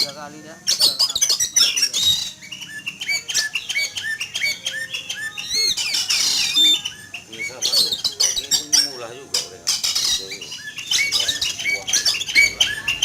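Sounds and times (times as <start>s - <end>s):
bird calling sharp notes: 0.0s - 13.0s
bird rasping chatter: 0.0s - 13.0s.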